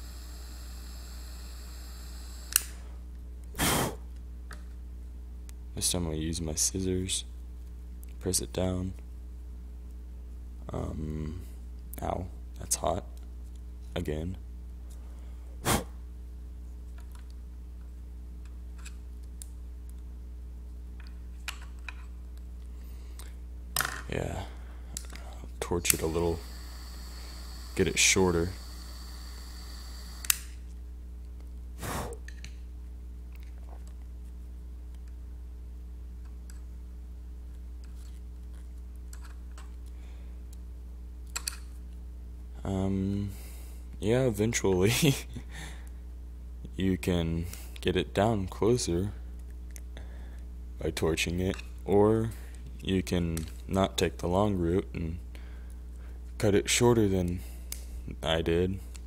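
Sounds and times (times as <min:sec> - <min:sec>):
low hum: 0:00.0 - 0:47.3.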